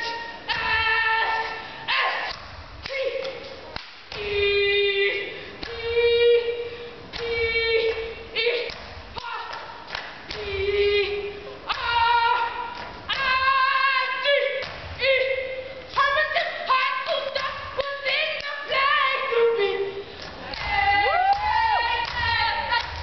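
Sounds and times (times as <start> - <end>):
women singing unaccompanied: 0.0 - 23.0.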